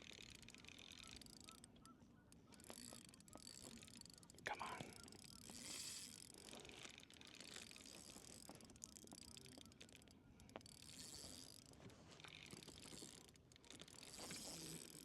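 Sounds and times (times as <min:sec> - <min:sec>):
fishing reel clicking and whirring: 0:00.0 - 0:15.0.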